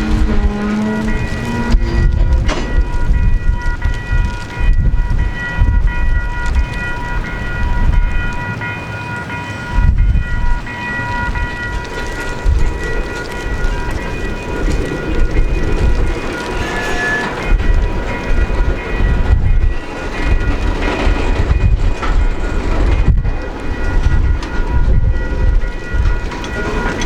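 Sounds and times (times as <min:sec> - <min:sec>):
diesel train rumbling past: 0:00.0 - 0:27.0.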